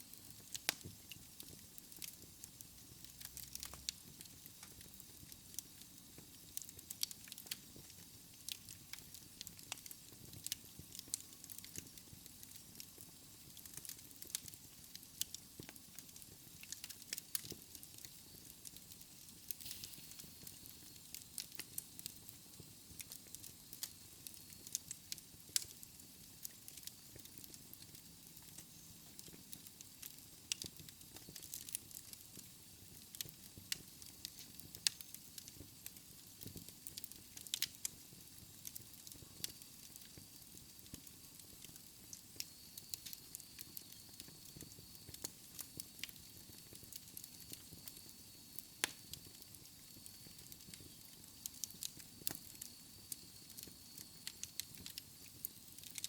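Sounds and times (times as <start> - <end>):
soft steady hiss: 0.0 - 56.0
wood fire crackling and popping: 0.0 - 56.0.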